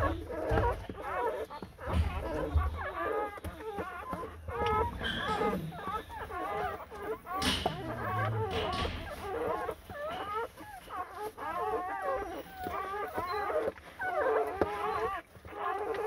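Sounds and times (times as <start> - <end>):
puppies squealing and whimpering: 0.0 - 16.0.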